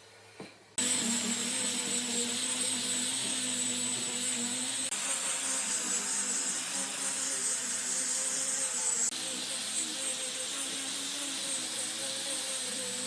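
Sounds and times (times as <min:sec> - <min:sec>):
motorised tool whining: 0:00.8 - 0:13.0.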